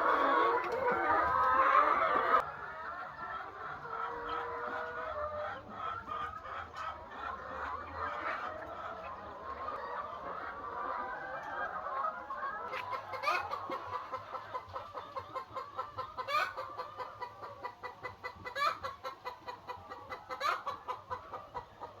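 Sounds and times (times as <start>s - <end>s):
chickens clucking: 0.0s - 22.0s
loud chicken calls: 0.0s - 22.0s.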